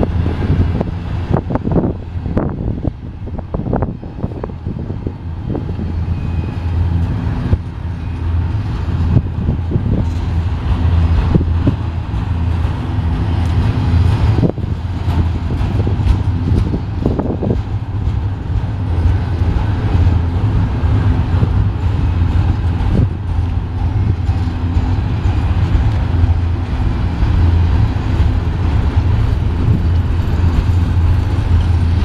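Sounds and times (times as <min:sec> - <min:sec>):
train cars knocking and clanking: 0:00.0 - 0:32.0
train wheels rumbling on rail: 0:00.0 - 0:32.0.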